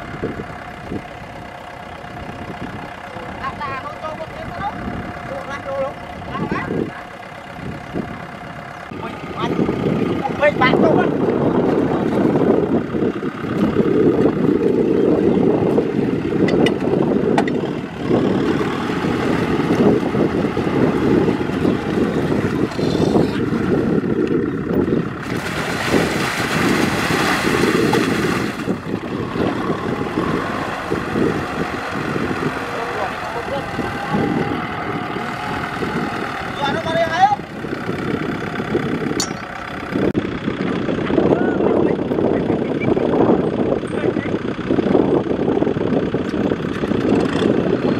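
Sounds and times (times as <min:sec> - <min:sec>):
tractor diesel engine running: 0:00.0 - 0:47.9
tyres churning through mud: 0:00.0 - 0:47.9.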